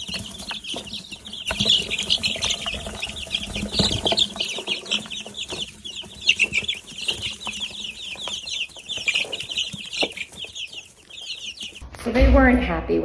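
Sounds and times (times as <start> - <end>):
baby chicks peeping: 0.0 - 11.8.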